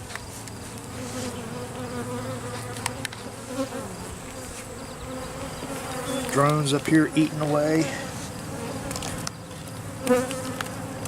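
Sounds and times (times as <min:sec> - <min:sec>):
honey bees buzzing: 0:00.2 - 0:11.0.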